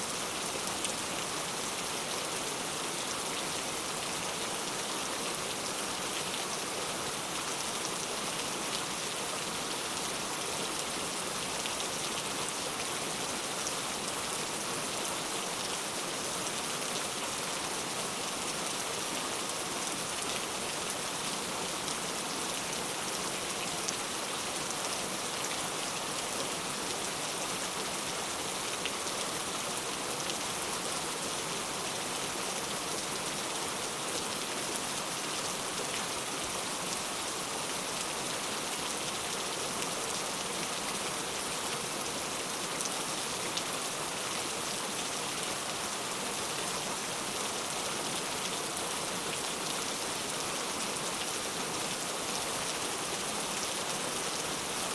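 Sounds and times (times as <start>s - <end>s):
steady rain hissing: 0.0s - 54.9s.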